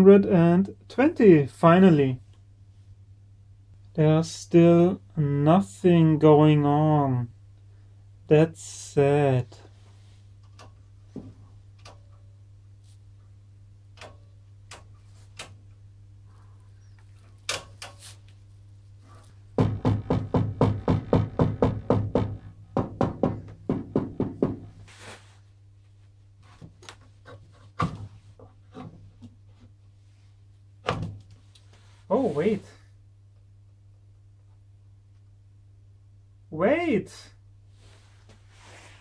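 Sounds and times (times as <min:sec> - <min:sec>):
mains hum: 0:00.0 - 0:39.0.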